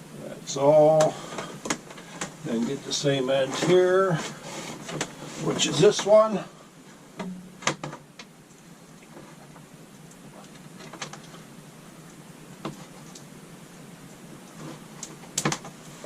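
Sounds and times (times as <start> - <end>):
tape crackle and rustle: 0.9 - 16.0.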